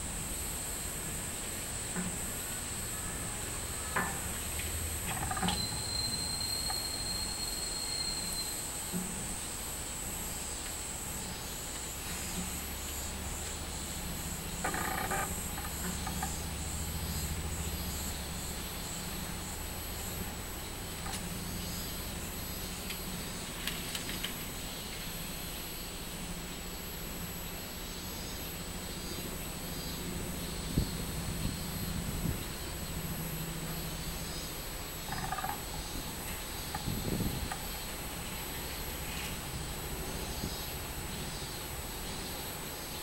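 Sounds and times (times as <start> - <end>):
cicadas buzzing and pulsing: 0.0 - 43.0.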